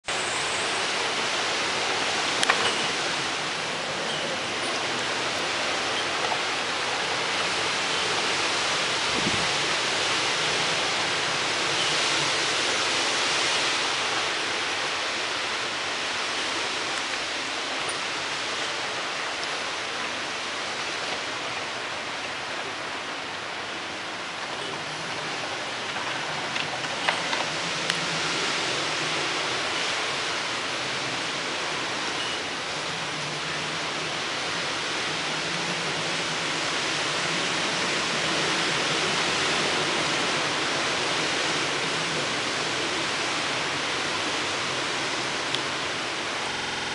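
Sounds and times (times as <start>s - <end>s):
strong wind rushing through trees: 0.0s - 46.9s.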